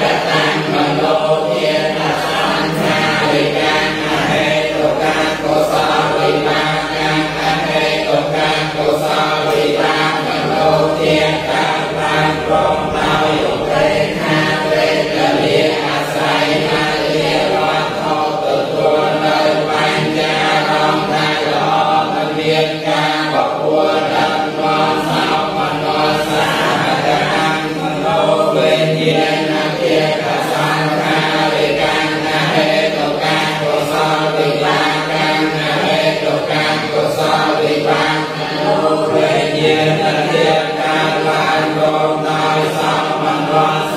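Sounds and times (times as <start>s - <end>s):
group chanting in unison: 0.0s - 43.9s.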